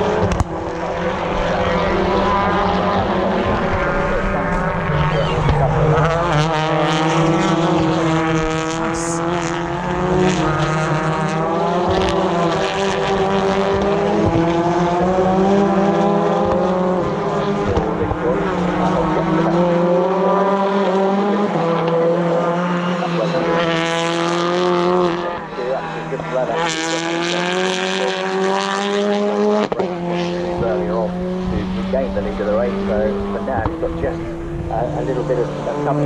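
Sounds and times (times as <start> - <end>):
racing car engines passing: 0.0 - 36.0.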